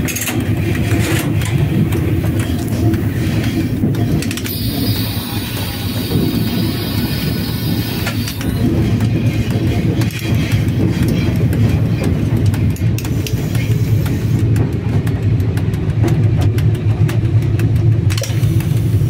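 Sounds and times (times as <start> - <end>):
locomotive low rumble: 0.0 - 19.0
rapid regular clicking: 0.1 - 19.0.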